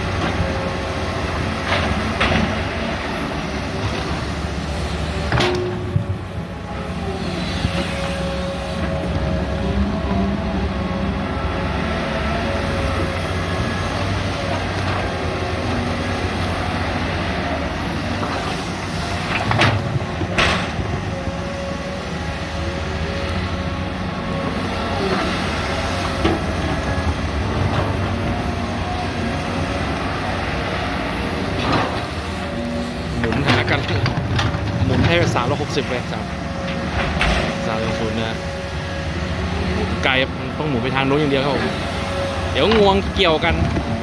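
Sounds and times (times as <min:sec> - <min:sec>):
excavator diesel engines: 0:00.0 - 0:44.0.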